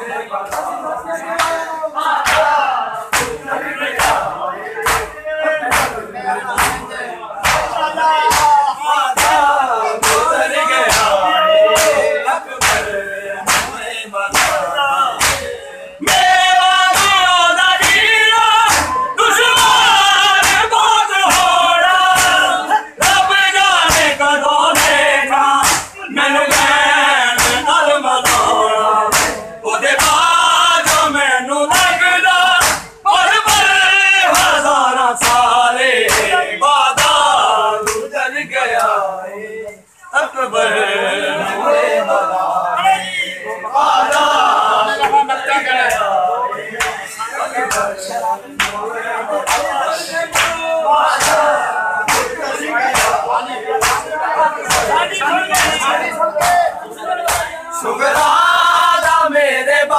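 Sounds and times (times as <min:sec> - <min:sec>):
men singing a lament: 0:00.0 - 0:59.9
rhythmic chest-beating hand slaps: 0:00.3 - 0:39.8, 0:42.1 - 0:59.9.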